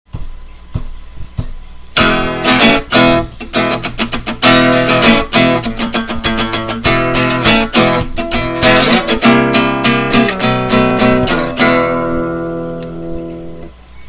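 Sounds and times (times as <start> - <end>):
strummed guitar chords: 2.0 - 13.7.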